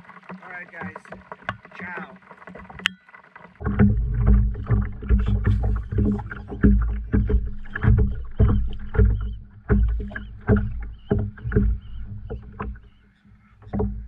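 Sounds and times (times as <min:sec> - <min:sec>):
boat engine hum: 0:00.0 - 0:14.0
water splashing and knocking: 0:00.0 - 0:14.0.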